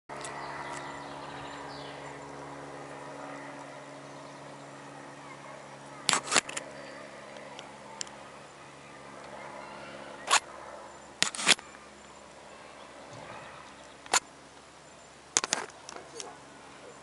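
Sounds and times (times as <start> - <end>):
propeller plane engine drone: 0.1 - 17.0.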